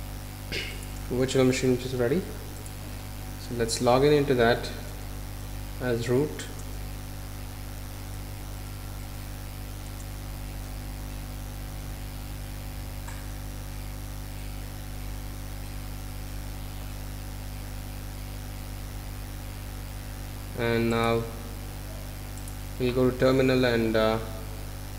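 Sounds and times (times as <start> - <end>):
low electrical hum: 0.0 - 24.9
steady hiss: 0.0 - 24.9.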